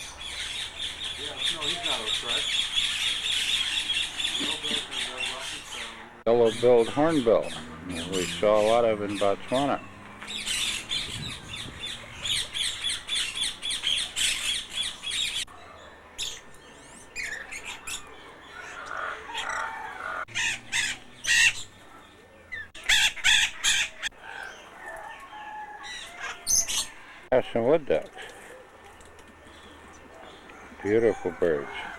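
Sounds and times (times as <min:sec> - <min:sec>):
birds calling and chirping: 0:00.0 - 0:31.9.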